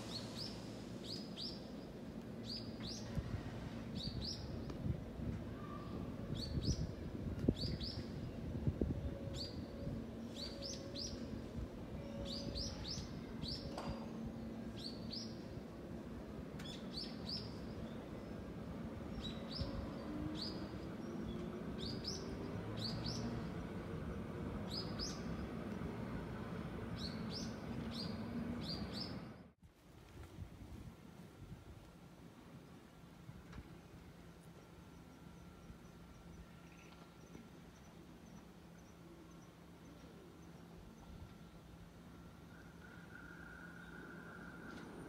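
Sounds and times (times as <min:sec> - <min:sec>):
electric train rumble: 0:00.0 - 0:29.6, 0:31.6 - 0:45.0.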